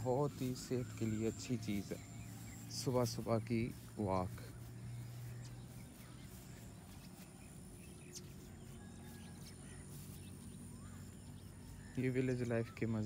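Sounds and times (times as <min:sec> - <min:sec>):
faint bird chirps: 0:00.0 - 0:13.0
steady low hum: 0:00.0 - 0:13.0.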